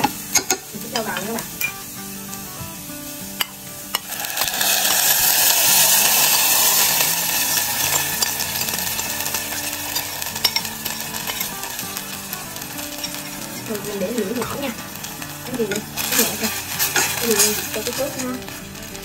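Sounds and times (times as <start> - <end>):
sauce sizzling in hot oil: 0.0 - 19.0.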